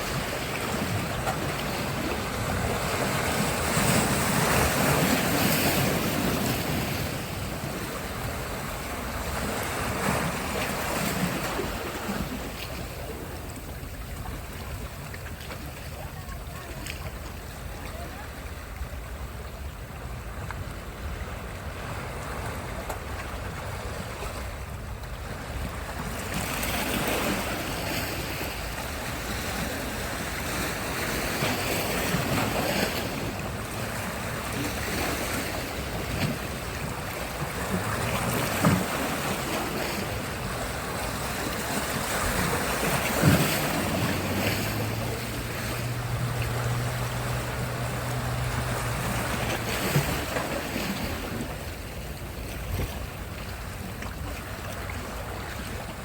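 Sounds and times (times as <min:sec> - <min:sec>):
sea surf washing ashore: 0:00.0 - 0:56.0.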